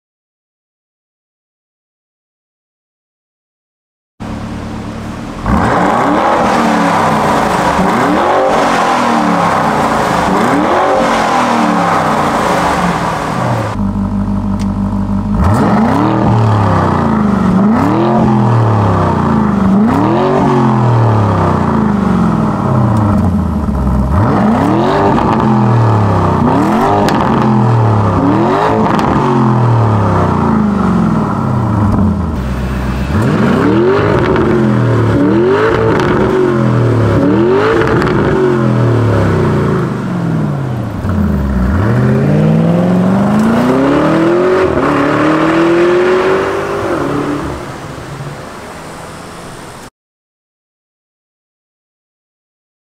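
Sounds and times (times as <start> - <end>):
car engine revving and idling: 4.2 - 49.9.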